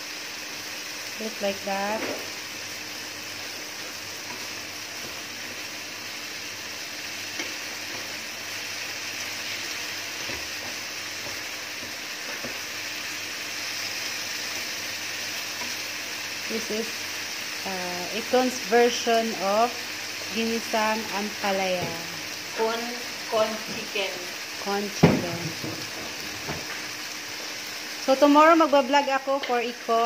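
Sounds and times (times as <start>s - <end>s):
carrots sizzling in a pan: 0.0s - 30.0s.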